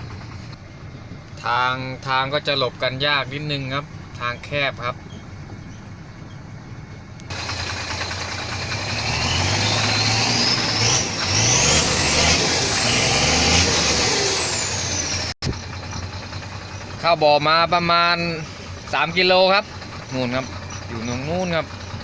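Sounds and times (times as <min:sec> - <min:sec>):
diesel engine accelerating: 0:00.0 - 0:22.0
high engine whine: 0:00.0 - 0:22.0.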